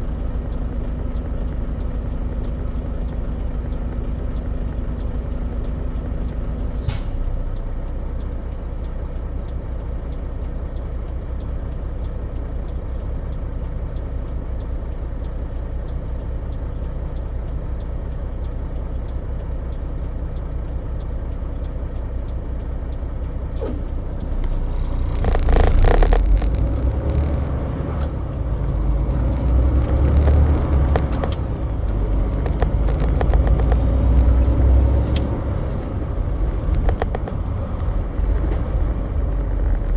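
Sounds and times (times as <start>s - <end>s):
road rumble: 0.0s - 39.9s
truck engine running: 0.0s - 39.9s.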